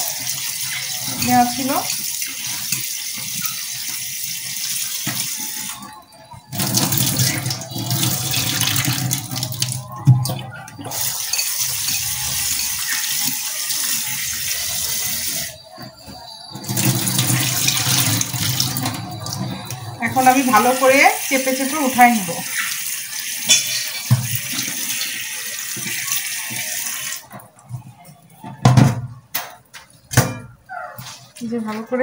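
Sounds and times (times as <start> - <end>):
water poured into a sink: 0.0 - 15.7, 16.5 - 27.3
tap water running into a bowl: 0.0 - 27.4.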